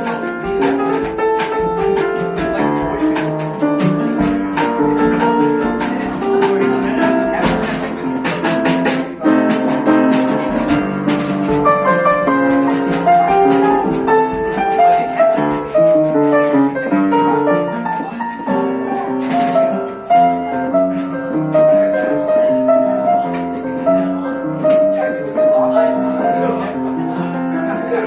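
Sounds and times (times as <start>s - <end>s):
jazz band with piano: 0.0s - 28.0s.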